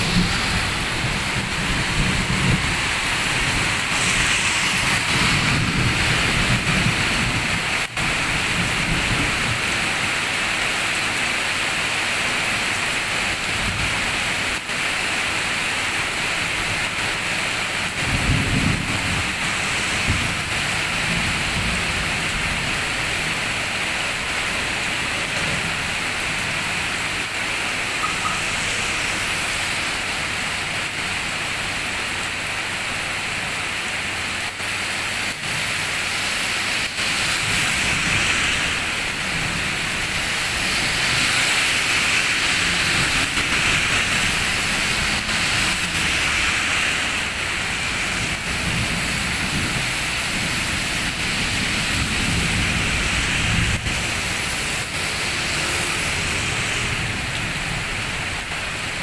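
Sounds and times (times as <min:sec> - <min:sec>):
heavy rain falling: 0:00.0 - 0:59.0
truck passing on wet road: 0:00.0 - 0:59.0.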